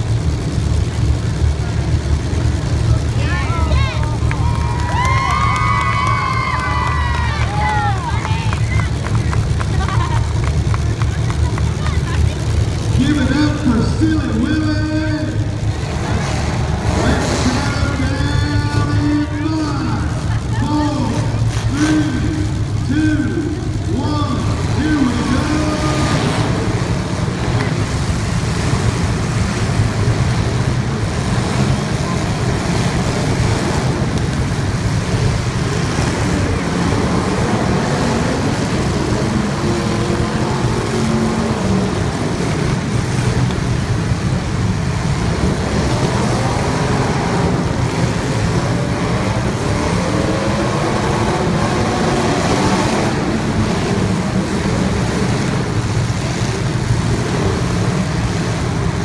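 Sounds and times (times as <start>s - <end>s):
racing car engines droning: 0.0s - 59.0s
road noise: 0.0s - 59.0s.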